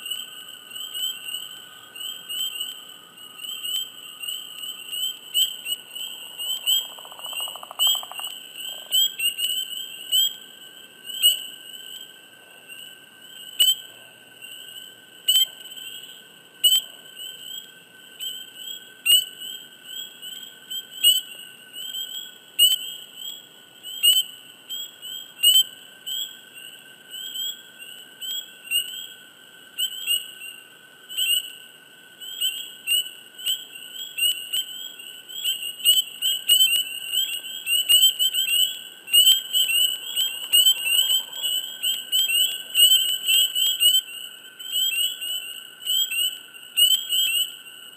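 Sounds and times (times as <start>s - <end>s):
chorus of spring peepers: 0.0s - 47.9s.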